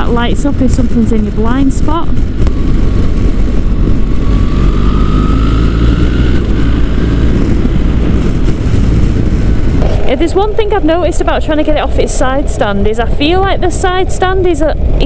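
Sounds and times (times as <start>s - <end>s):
motorcycle engine running: 0.0s - 15.0s
wind rush over microphone: 0.0s - 15.0s.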